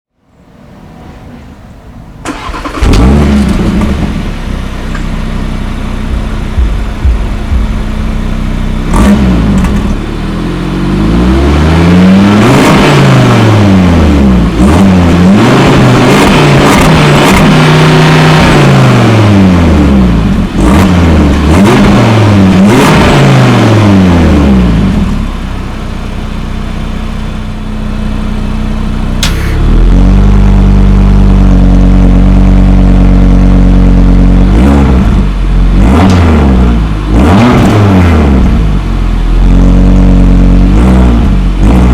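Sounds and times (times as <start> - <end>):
car engine revving: 0.8 - 25.5, 28.0 - 41.9.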